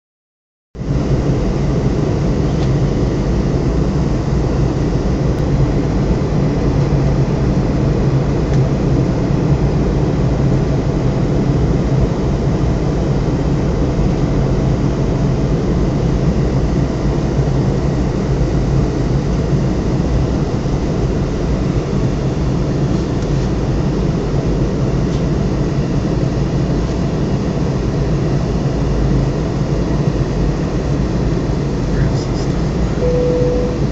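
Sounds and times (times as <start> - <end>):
jet cabin engine and airflow rush: 0.8 - 33.9
steady low hum: 0.8 - 33.9.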